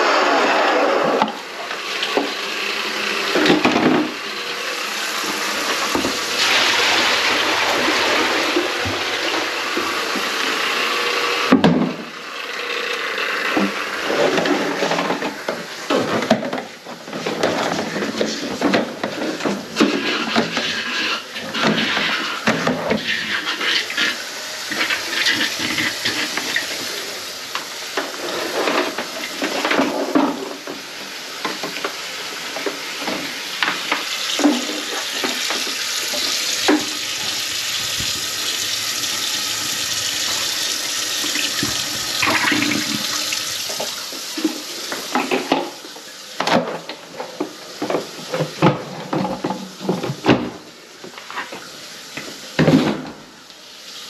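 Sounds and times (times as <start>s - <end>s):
water splashing in sink: 3.2s - 10.6s, 13.5s - 54.0s.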